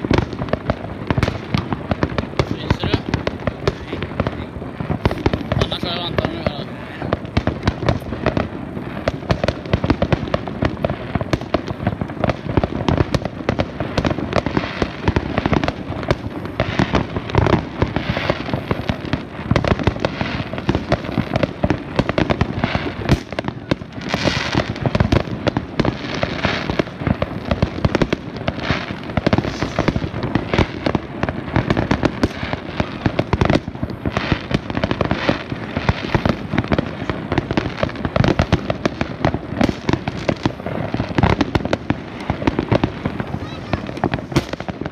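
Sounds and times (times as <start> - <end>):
fireworks bangs and crackling: 0.0 - 44.9
hissing crackle of fireworks: 0.0 - 44.9.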